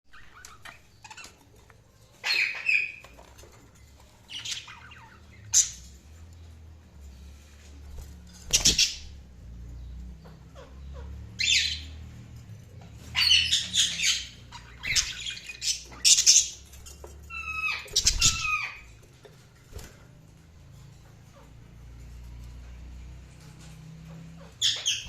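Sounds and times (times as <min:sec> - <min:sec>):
budgerigars chirping and squawking: 0:00.1 - 0:25.0.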